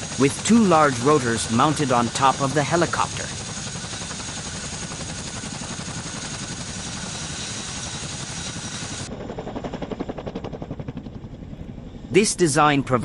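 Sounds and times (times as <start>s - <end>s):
helicopter rotor chop flying past: 0.0s - 13.0s
helicopter rotors running: 0.0s - 13.0s.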